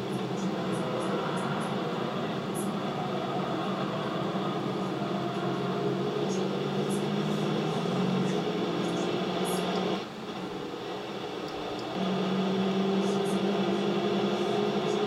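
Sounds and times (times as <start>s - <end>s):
car engine running hard: 0.0s - 15.0s
road and wind noise: 0.0s - 15.0s.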